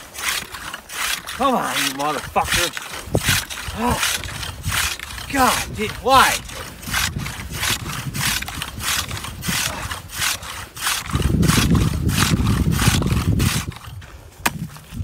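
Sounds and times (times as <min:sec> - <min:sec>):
ice saw sawing through ice: 0:00.0 - 0:15.0.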